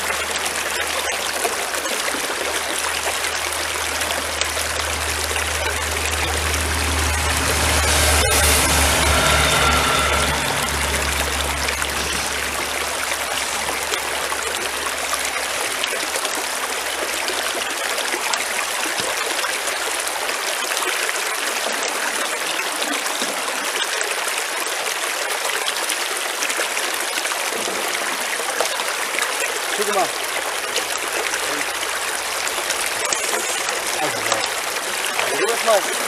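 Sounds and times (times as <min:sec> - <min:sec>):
stream water running over rocks: 0:00.0 - 0:36.0.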